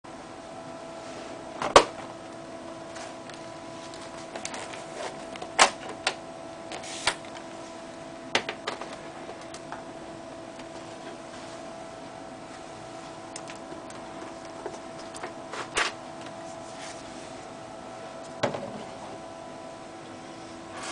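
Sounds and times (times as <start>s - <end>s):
electrical hum: 0.0s - 20.9s.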